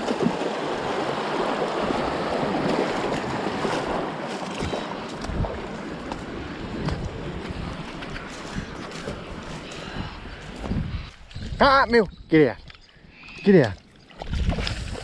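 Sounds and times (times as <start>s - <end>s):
wind buffeting microphone: 0.0s - 12.7s
creek water running: 0.0s - 15.0s.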